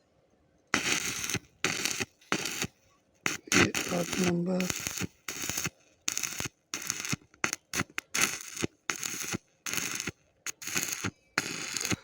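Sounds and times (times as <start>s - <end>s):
welding arc crackling: 0.7s - 12.0s.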